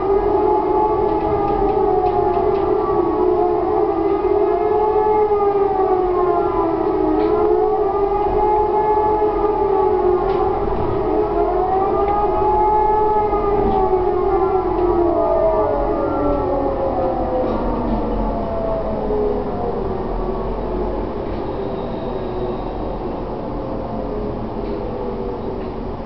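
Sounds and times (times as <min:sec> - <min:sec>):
civil defence sirens howling: 0:00.0 - 0:26.0.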